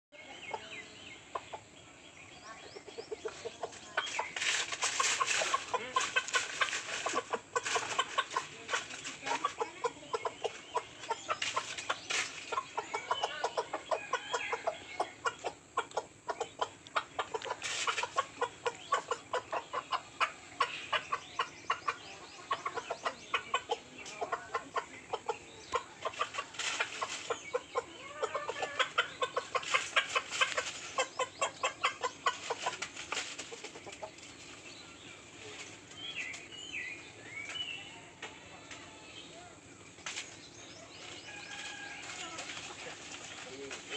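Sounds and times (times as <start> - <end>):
rustling in dry leaves: 2.3 - 38.1, 38.9 - 43.9.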